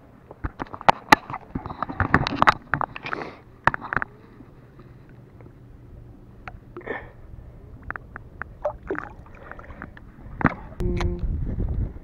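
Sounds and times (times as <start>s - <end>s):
water splashing and sloshing: 0.0s - 10.8s
low steady rumble: 1.4s - 12.0s.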